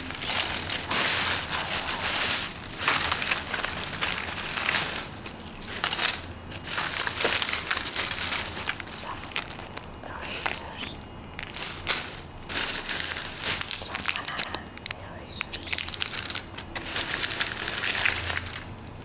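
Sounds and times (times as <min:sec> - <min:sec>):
plastic bag rustling: 0:00.0 - 0:14.9, 0:15.5 - 0:19.0.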